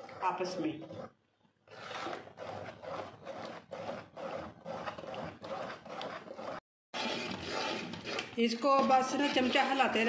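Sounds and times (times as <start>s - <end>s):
spoon stirring thick mash in pot: 0.0s - 10.0s.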